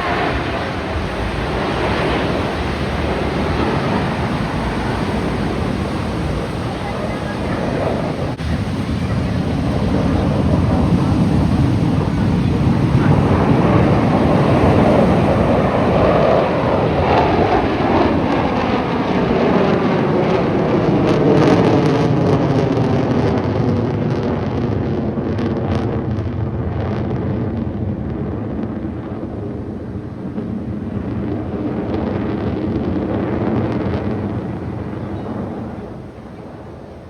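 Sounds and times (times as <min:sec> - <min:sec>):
jets passing overhead: 0:00.0 - 0:37.0.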